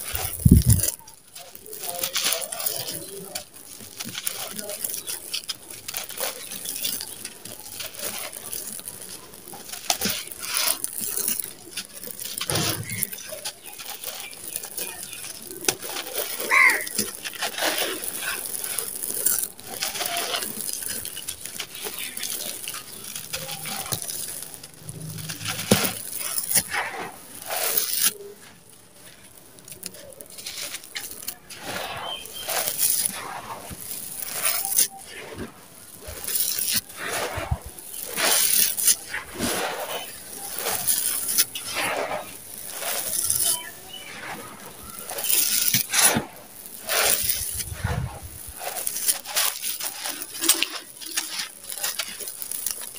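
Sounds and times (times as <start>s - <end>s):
grains pattering onto sand: 0.0s - 52.9s
sand-cement lumps crunching by hand: 0.0s - 52.9s.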